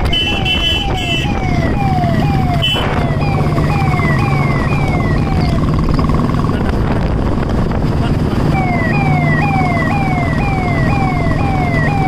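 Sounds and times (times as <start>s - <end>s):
police siren wailing: 0.0s - 6.4s, 8.4s - 12.0s
motorcycle engines running: 0.0s - 12.0s.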